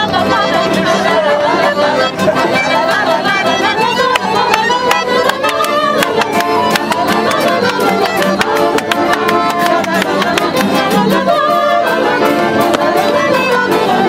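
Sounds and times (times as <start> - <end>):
acoustic guitars strumming: 0.0 - 14.0
group singing: 0.0 - 14.0.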